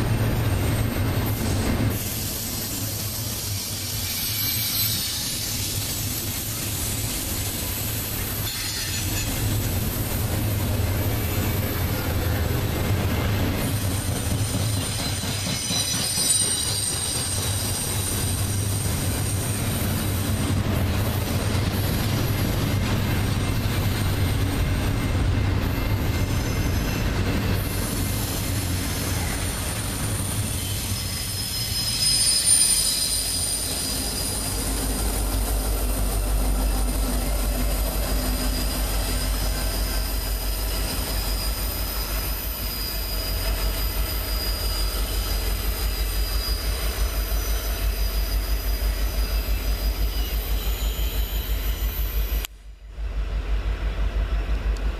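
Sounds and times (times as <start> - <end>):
train wheels squealing: 0.0 - 52.5
diesel locomotive engine: 0.0 - 54.9.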